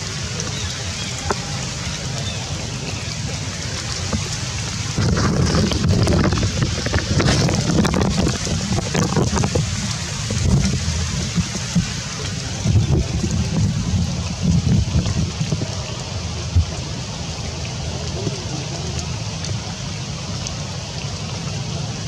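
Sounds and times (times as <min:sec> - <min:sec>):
steady rain: 0:00.0 - 0:22.0
wind buffeting microphone: 0:00.0 - 0:22.0.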